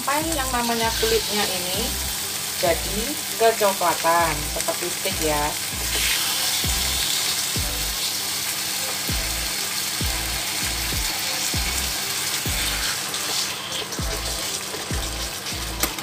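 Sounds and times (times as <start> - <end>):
background music with low beat: 0.0 - 3.2, 4.1 - 8.2, 8.8 - 16.0
chicken sizzling in frying pan: 0.0 - 16.0.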